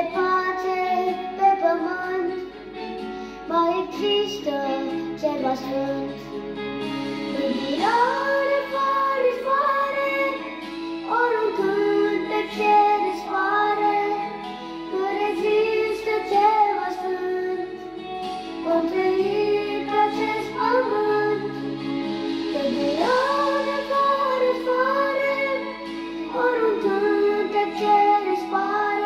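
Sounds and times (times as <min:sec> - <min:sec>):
boy singing into microphone: 0:00.0 - 0:02.6, 0:03.2 - 0:06.3, 0:07.3 - 0:21.7, 0:22.5 - 0:29.0
backing music track: 0:00.0 - 0:29.0.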